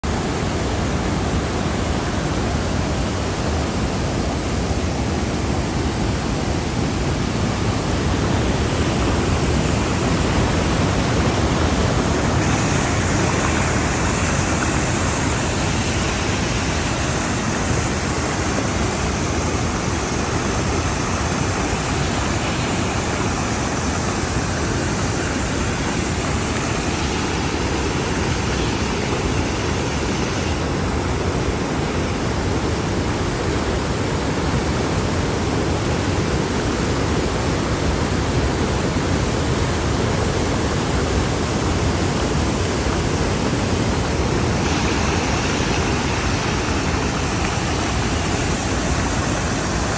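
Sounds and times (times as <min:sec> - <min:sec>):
water rushing over dam spillway: 0:00.0 - 0:49.9.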